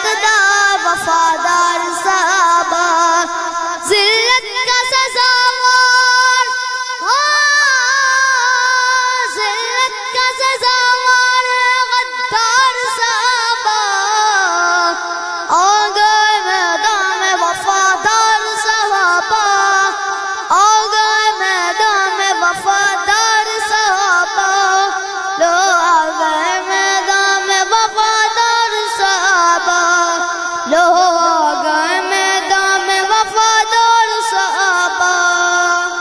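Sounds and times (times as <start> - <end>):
boy singing into a microphone: 0.0 - 36.0.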